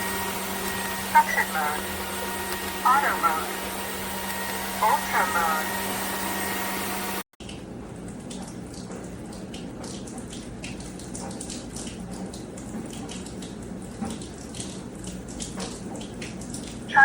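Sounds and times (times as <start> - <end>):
water trickling and dripping: 0.0 - 6.7, 7.4 - 17.0.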